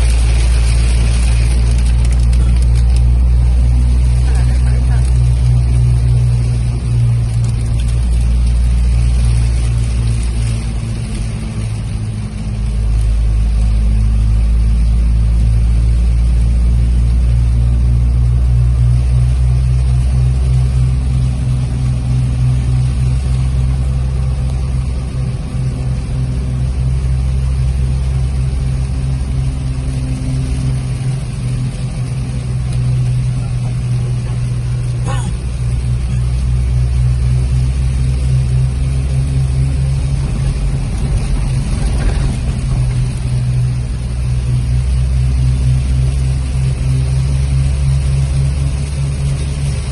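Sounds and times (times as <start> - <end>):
engine and road drone: 0.0 - 49.9.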